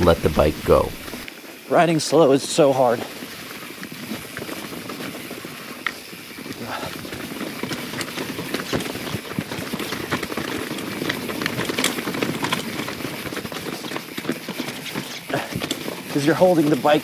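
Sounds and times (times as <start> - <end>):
bike clattering and rattling: 0.0 - 1.7, 2.4 - 17.0
bike tyre noise: 0.0 - 17.0.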